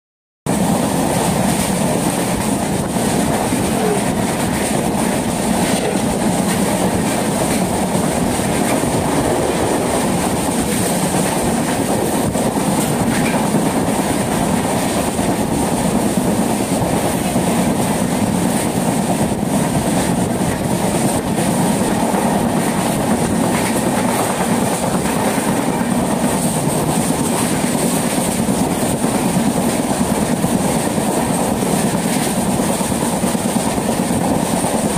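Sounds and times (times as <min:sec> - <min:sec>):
train wheels rumbling on track: 0:00.5 - 0:34.9.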